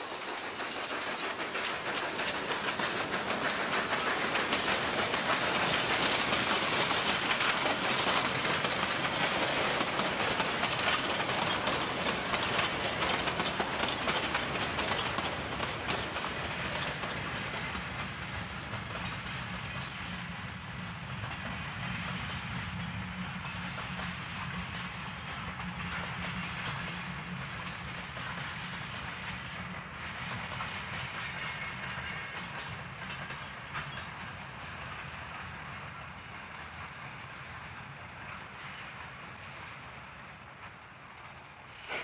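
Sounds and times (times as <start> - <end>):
steam locomotive passing: 0.0 - 42.0
train wheels clattering on rails: 0.0 - 42.0.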